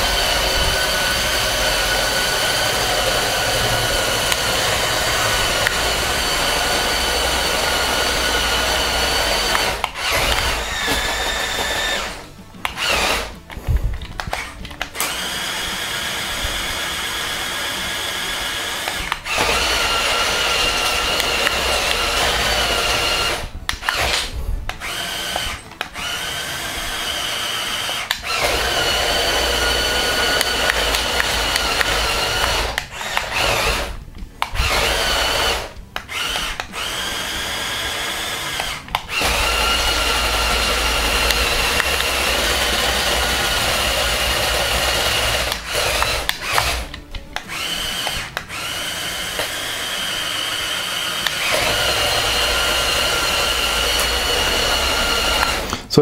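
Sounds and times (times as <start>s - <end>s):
toy bulldozer motors whining: 0.0s - 56.0s.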